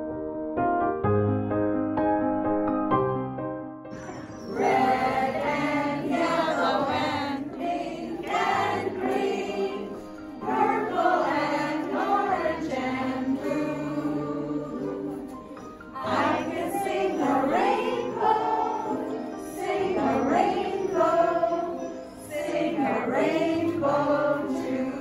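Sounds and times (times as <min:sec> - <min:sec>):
soft piano music: 0:00.0 - 0:25.0
group singing: 0:04.5 - 0:25.0.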